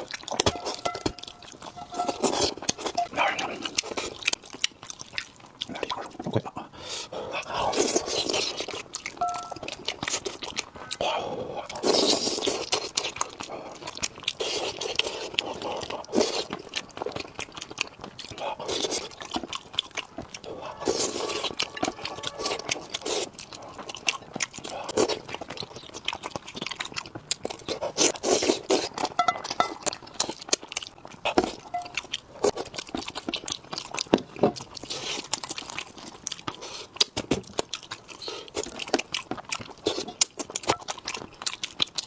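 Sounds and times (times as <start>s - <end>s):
chewing and crunching: 0.0s - 42.0s
wet smacking mouth noises: 0.0s - 42.0s.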